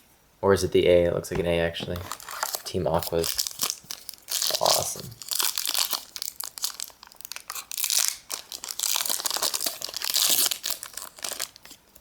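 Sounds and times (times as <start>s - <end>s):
foil wrapper crinkling and tearing: 1.9s - 12.0s.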